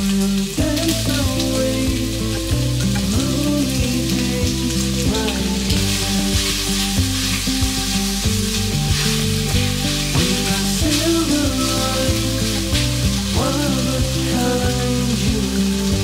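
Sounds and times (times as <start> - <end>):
background music: 0.0 - 16.0
meat sizzling in a pan: 0.0 - 16.0.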